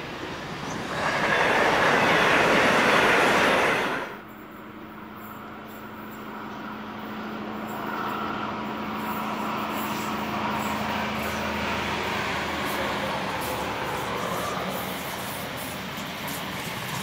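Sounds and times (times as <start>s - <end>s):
train carriages rolling: 0.0s - 17.0s
train engine hum: 0.0s - 17.0s.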